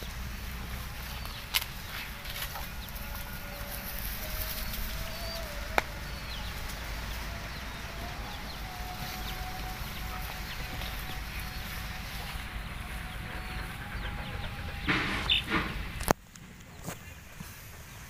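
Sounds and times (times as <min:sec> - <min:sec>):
drawn-out animal calls: 0:00.0 - 0:16.1
low rumble: 0:00.0 - 0:17.3.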